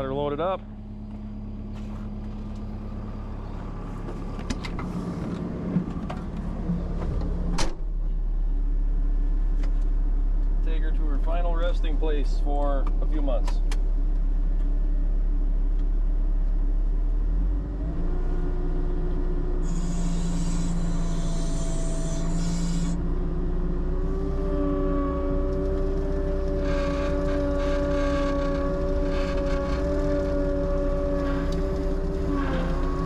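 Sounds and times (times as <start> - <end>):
vehicle engine under load: 0.0 - 33.0.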